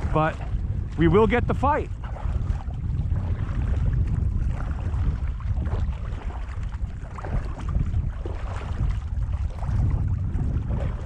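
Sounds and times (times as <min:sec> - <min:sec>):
faint water noise: 0:00.0 - 0:11.0
wind buffeting microphone: 0:00.0 - 0:11.0.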